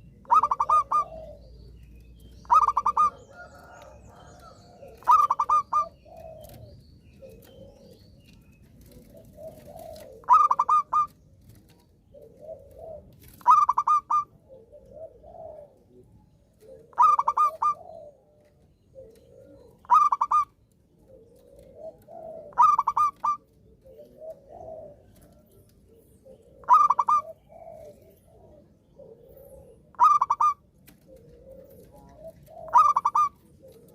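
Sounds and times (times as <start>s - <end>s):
dove cooing song: 0.0s - 33.9s
soft low dove calls: 0.0s - 33.9s.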